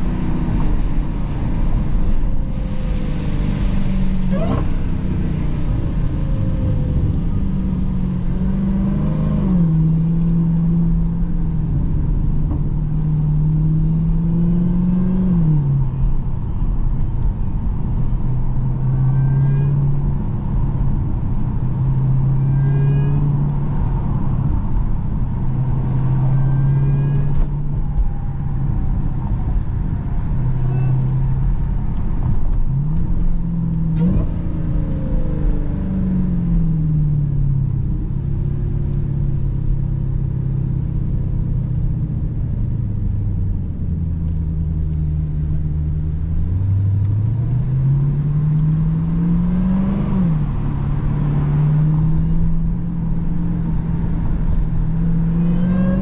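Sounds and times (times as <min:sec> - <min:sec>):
car engine droning at low revs: 0:00.0 - 0:56.0.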